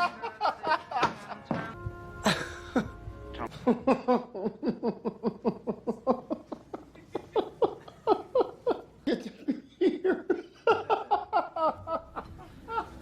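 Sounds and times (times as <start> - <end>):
person laughing hard: 0.0 - 1.6, 2.2 - 13.0.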